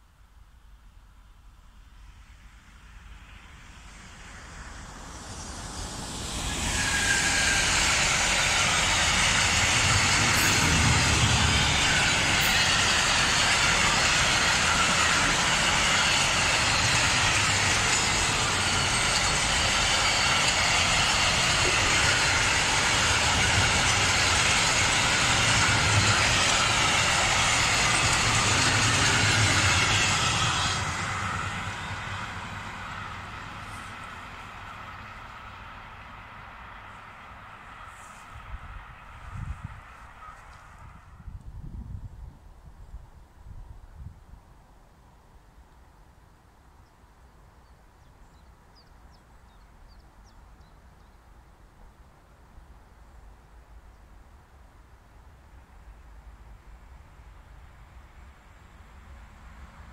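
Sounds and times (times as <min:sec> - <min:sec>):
freight train passing: 0:00.6 - 0:44.6, 0:46.0 - 0:59.9.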